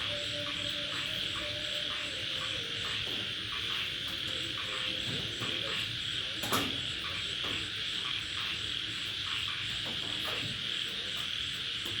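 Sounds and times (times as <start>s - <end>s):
insects trilling: 0.0s - 11.9s
frogs croaking: 0.0s - 12.0s.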